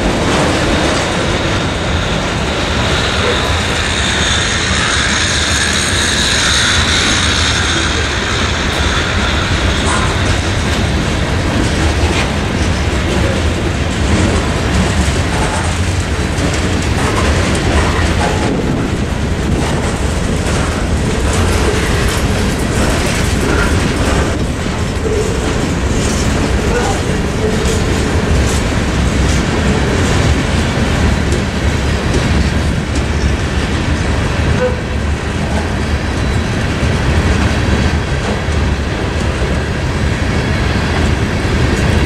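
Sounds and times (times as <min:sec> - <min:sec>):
train rumbling past: 0:00.0 - 0:42.0
wheels clacking over rail joints: 0:00.0 - 0:42.0.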